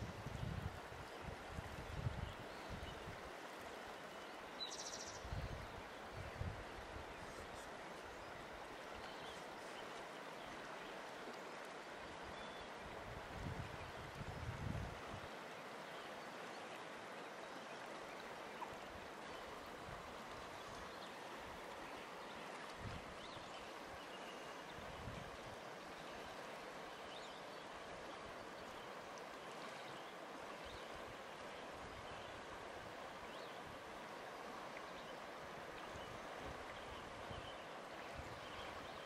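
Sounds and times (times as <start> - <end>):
river water flowing: 0.0 - 39.0.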